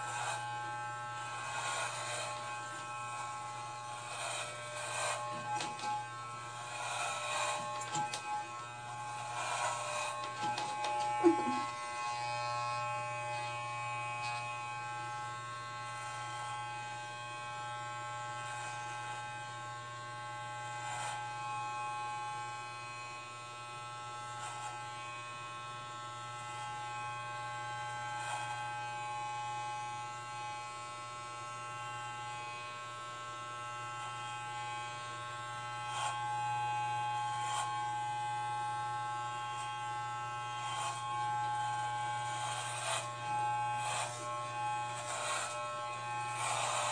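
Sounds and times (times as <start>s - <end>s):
electric hair clippers buzzing: 0.0s - 46.9s.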